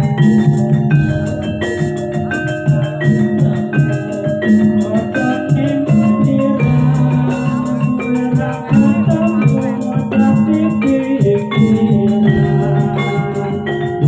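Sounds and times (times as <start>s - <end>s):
bronze metallophones ringing: 0.0s - 14.0s
drum beats: 0.0s - 14.0s.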